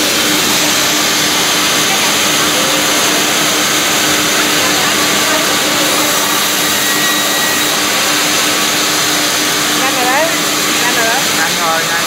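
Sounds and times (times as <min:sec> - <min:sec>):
band saw whirring: 0:00.0 - 0:12.0.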